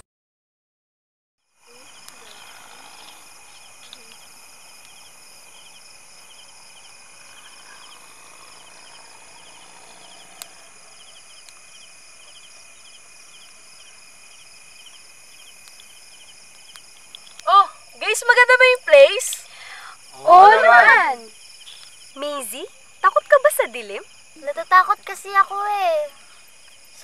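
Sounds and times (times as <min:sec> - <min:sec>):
continuous high insect trill: 0:01.4 - 0:27.0
crickets chirping: 0:01.4 - 0:27.0.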